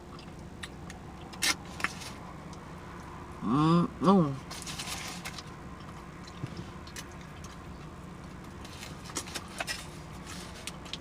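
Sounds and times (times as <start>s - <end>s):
wet chewing and smacking: 0.0s - 3.3s, 4.5s - 11.0s
low hum inside a car: 0.0s - 11.0s.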